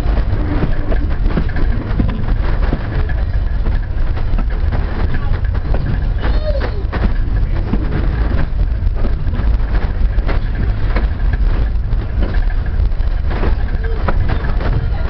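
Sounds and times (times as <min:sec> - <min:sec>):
irregular clicks and knocks: 0:00.0 - 0:15.0
train wheels rumbling on rails: 0:00.0 - 0:15.0.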